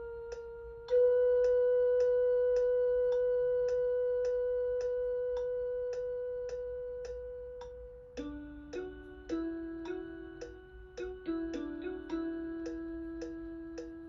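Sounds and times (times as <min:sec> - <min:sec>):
long held synthesized note: 0:00.0 - 0:14.0
metronome clicking: 0:00.0 - 0:14.0.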